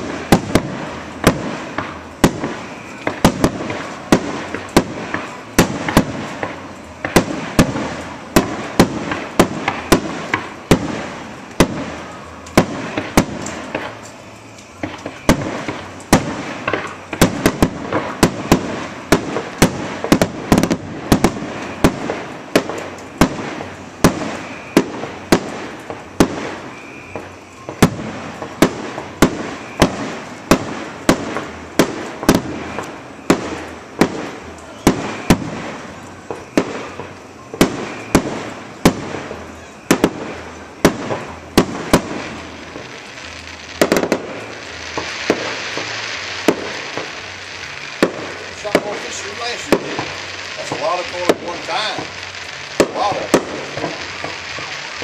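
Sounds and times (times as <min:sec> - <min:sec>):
firework shells bursting: 0:00.0 - 0:55.0.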